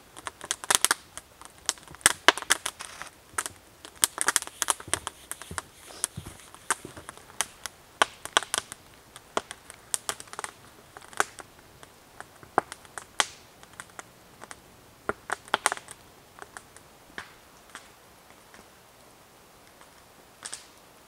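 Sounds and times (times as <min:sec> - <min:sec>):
sharp pops from fire: 0:00.0 - 0:18.7, 0:19.7 - 0:20.8
campfire crackling: 0:00.0 - 0:21.0.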